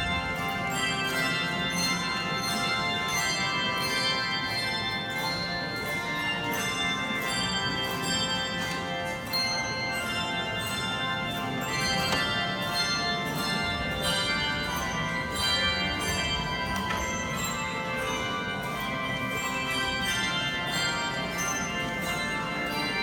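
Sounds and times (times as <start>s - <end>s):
handbell choir playing: 0.0s - 23.0s.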